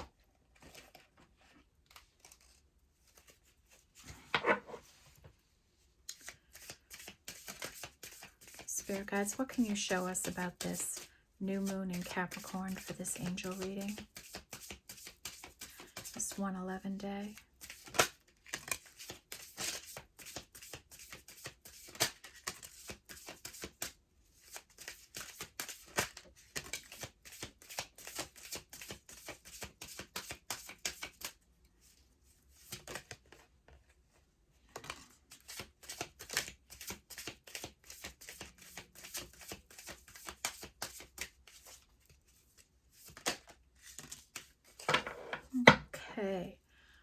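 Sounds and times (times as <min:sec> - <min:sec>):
cards being shuffled: 0:01.8 - 0:04.9, 0:06.1 - 0:16.3, 0:17.3 - 0:33.5, 0:34.7 - 0:45.7.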